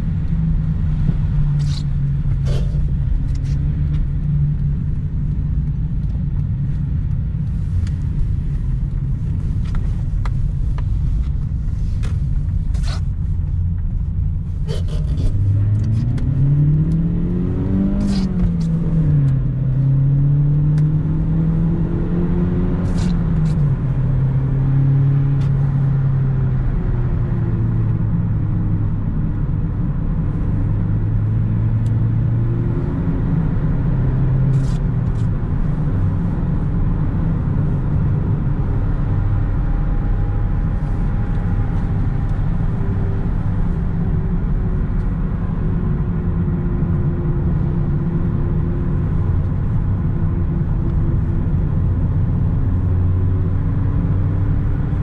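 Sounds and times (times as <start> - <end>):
car engine running: 0.0 - 55.0
tyre and road noise: 0.0 - 55.0.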